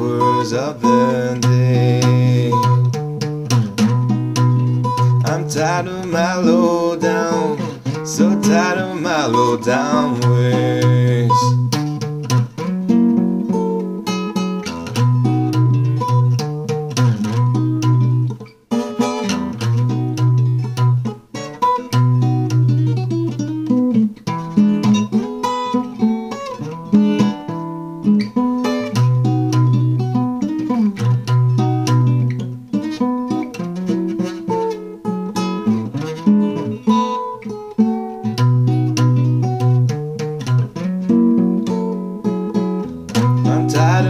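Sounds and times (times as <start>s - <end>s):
acoustic blues guitar: 0.0s - 44.0s.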